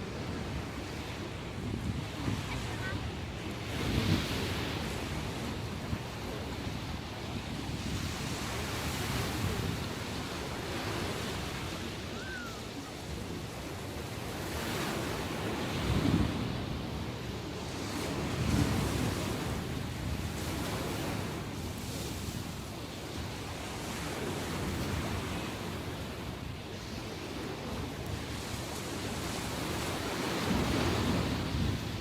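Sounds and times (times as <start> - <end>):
waves breaking on shore: 0.0 - 32.0
wind buffeting microphone: 0.0 - 32.0.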